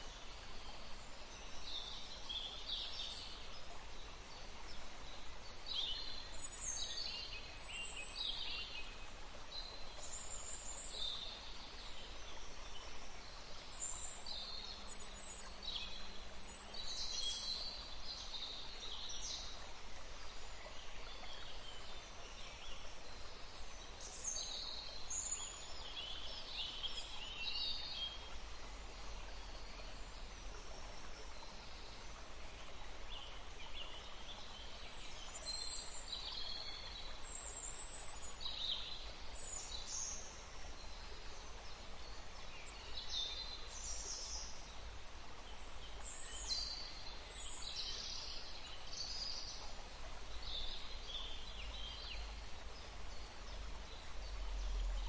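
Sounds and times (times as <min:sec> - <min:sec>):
faint water rushing: 0:00.0 - 0:55.0.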